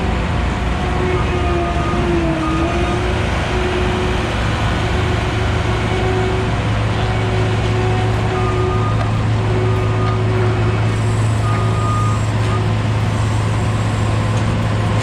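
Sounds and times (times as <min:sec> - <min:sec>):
heavy machinery engines humming: 0:00.0 - 0:15.0.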